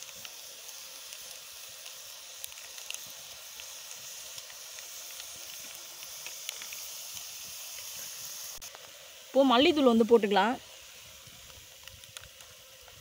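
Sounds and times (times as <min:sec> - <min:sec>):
meat sizzling in a pot: 0:00.0 - 0:13.0
sharp crackles: 0:00.0 - 0:13.0.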